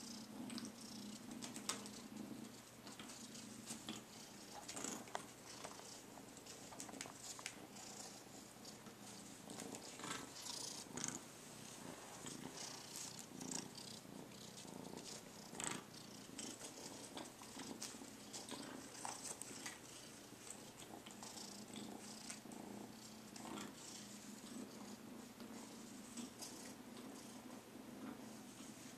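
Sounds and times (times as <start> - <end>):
kitten purring: 0.0 - 28.9.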